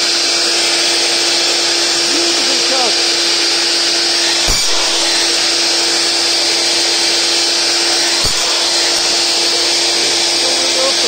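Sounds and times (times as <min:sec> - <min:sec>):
mitre saw whining: 0:00.0 - 0:11.0.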